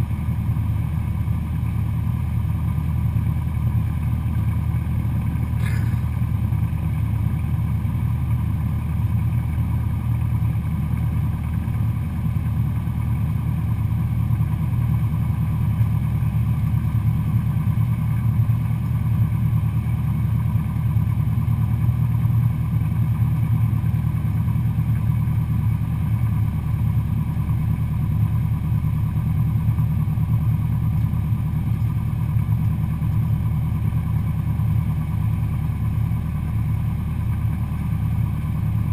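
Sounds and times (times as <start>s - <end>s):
airplane engine and propeller droning: 0.0s - 38.9s.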